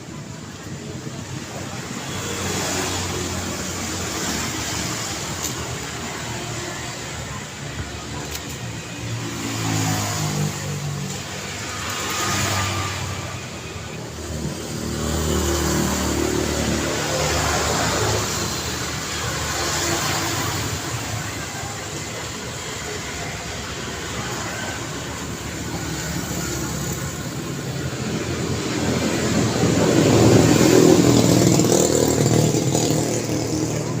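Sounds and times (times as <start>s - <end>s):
cars passing: 0.0s - 34.0s
street traffic: 0.0s - 34.0s.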